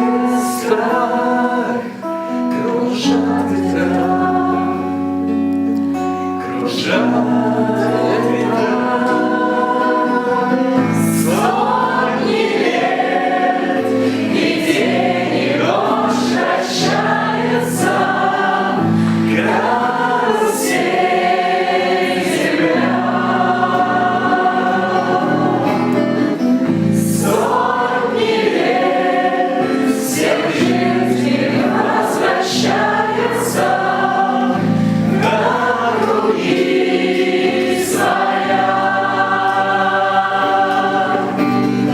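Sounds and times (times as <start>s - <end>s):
choir singing: 0.0s - 41.9s
instrumental accompaniment: 0.0s - 41.9s.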